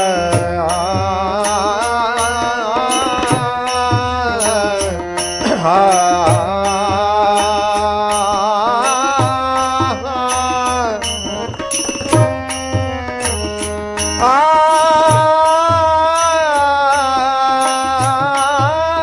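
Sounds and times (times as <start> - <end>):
man singing: 0.0 - 12.5, 13.5 - 19.0
harmonium: 0.0 - 19.0
tabla: 0.0 - 19.0.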